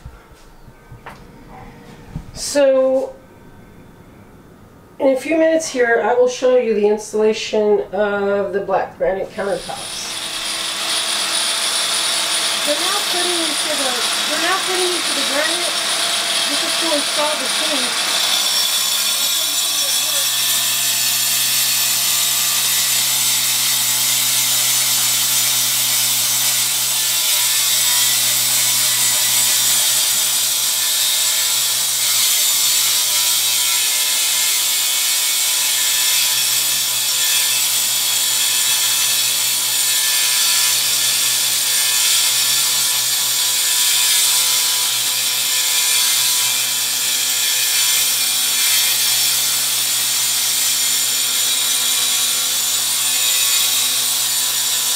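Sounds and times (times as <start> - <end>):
shop vacuum running: 9.3 - 54.9
angle grinder cutting stone: 9.4 - 54.9.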